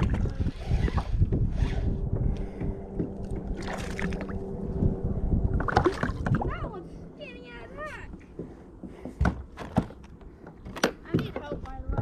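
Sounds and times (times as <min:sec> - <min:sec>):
wind rumbling on microphone: 0:00.0 - 0:09.0, 0:11.2 - 0:12.0.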